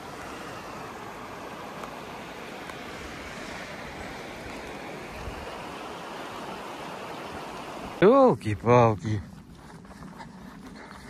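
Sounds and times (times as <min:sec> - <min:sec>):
river rushing: 0:00.0 - 0:08.9.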